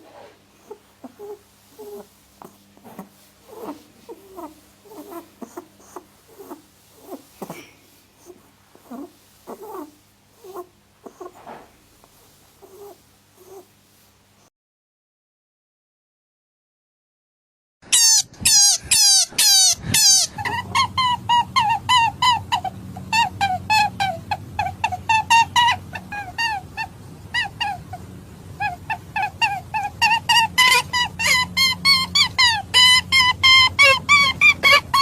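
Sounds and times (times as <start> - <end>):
rabbit squeals: 0.0 - 13.7, 17.9 - 35.0.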